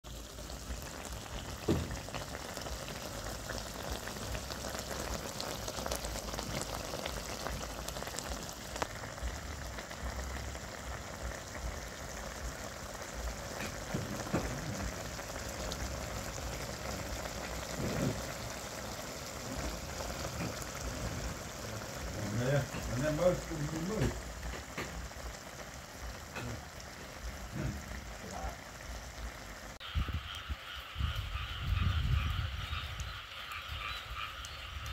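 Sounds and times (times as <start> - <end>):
stew simmering in a wok: 0.0 - 34.9.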